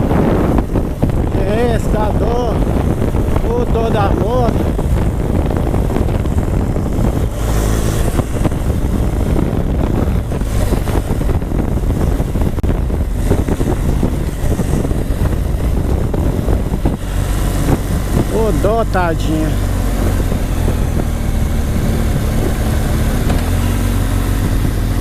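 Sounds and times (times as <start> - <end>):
motorcycle engine running hard: 0.0 - 25.0
wind noise on microphone: 0.0 - 25.0.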